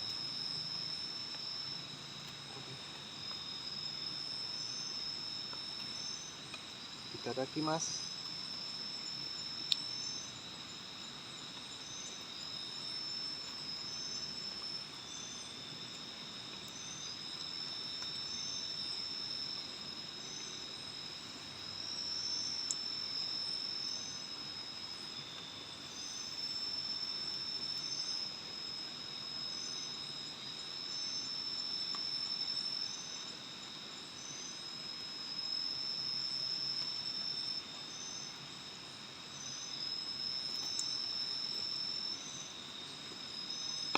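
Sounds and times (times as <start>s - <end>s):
insects shrilling: 0.0s - 33.3s, 39.3s - 43.9s
high short insect chirp: 0.0s - 43.9s.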